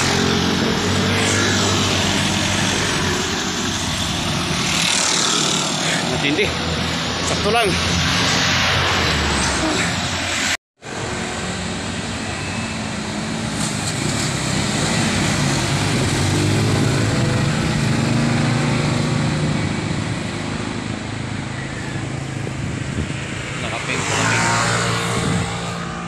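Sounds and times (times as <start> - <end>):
passing vehicle engine: 0.0 - 26.0
road traffic roar: 0.0 - 26.0.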